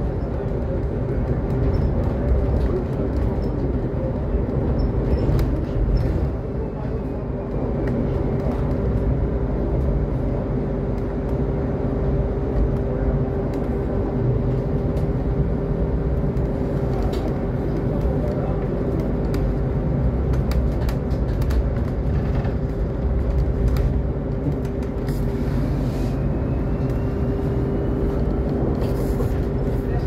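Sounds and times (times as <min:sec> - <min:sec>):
road rumble: 0:00.0 - 0:30.0.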